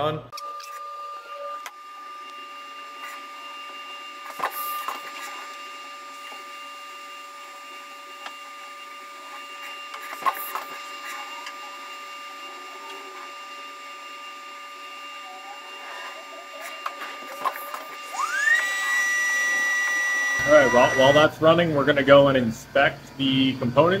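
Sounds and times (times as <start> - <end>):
milling machine whine: 0.0 - 24.0.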